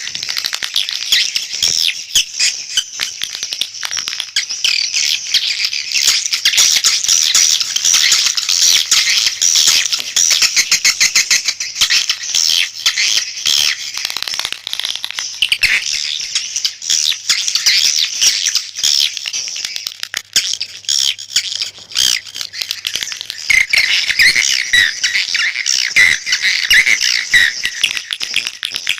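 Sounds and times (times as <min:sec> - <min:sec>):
swiftlets chirping: 0:00.0 - 0:28.9.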